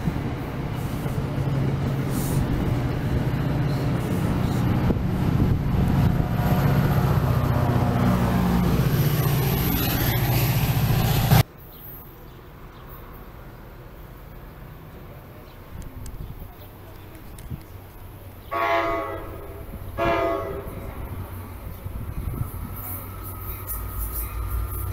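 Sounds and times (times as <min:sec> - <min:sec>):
diesel locomotive engine running: 0:00.0 - 0:11.4, 0:15.0 - 0:24.9.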